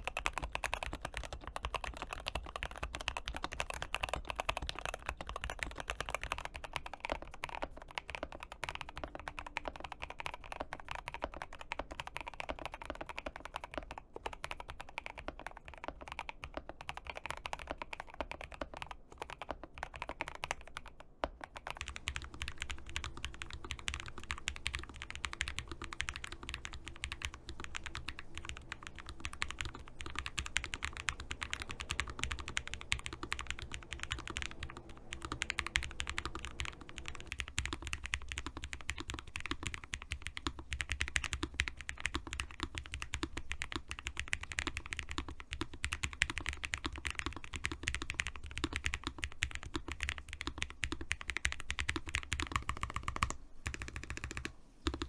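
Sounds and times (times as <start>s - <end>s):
mechanical keyboard typing: 0.0s - 55.0s.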